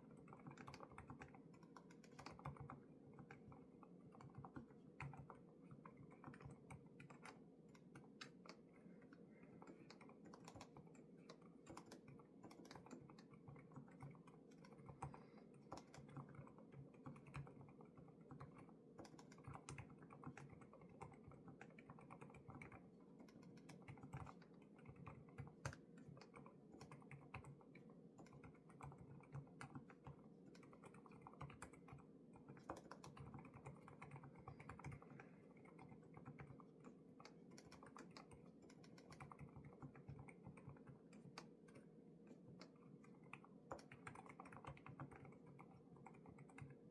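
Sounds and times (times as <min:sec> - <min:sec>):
mechanical keyboard typing: 0:00.0 - 0:46.9
steady low hum: 0:00.0 - 0:46.9.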